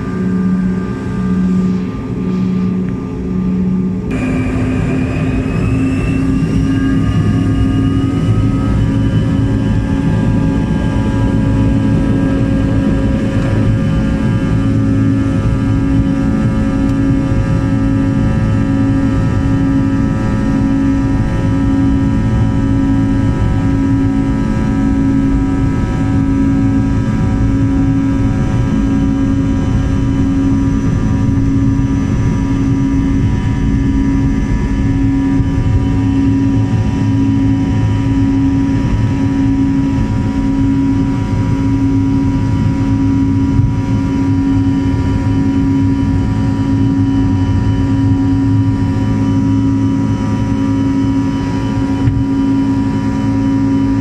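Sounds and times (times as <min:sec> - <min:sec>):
jet engines hum in cabin: 0:00.0 - 0:54.0.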